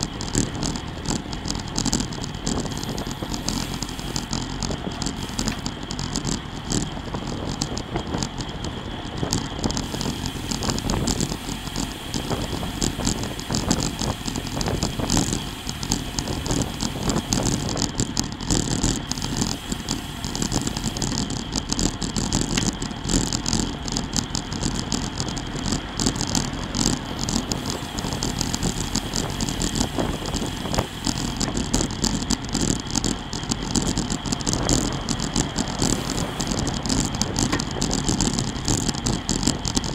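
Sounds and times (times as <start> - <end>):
bike rattles and clicks: 0.0 - 39.9
tyre noise on asphalt: 0.0 - 39.9
wind rushing over microphone: 0.0 - 39.9.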